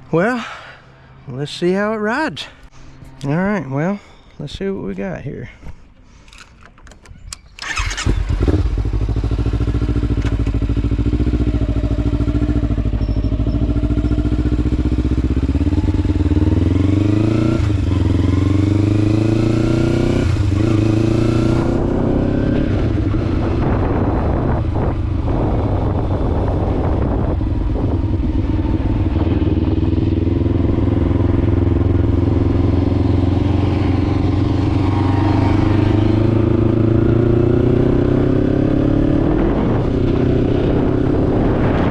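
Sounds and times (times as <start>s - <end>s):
motorcycle engine accelerating: 7.6s - 41.9s.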